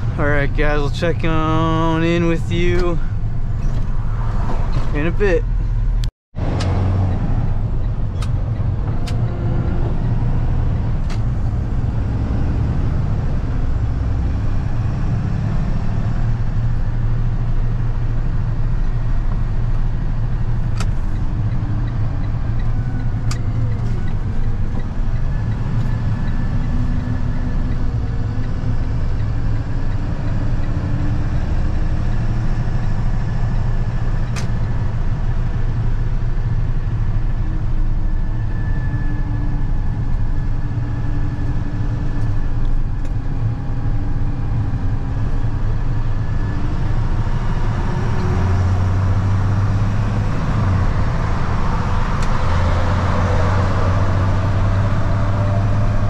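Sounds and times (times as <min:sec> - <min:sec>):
truck engine and road rumble: 0:00.0 - 0:56.0.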